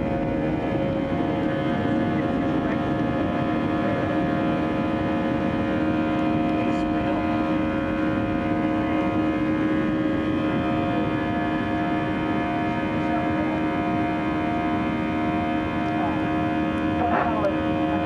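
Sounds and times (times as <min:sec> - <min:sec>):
jet engine whining tones: 0:00.0 - 0:18.0.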